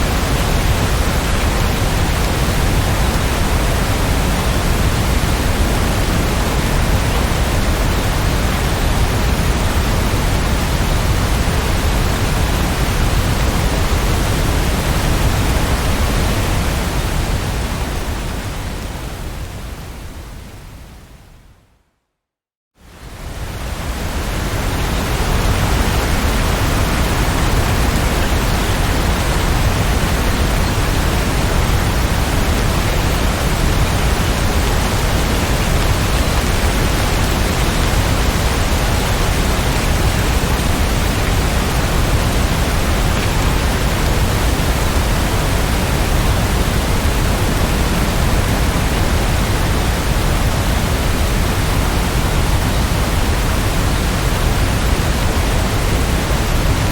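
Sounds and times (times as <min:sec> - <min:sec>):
steady dense rain: 0:00.0 - 0:21.4, 0:22.8 - 0:56.9.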